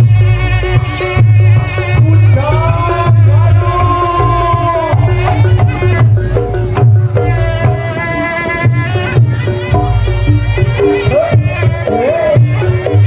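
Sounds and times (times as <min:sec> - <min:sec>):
steady drumming: 0:00.0 - 0:13.0
wind instrument melody: 0:00.0 - 0:13.0.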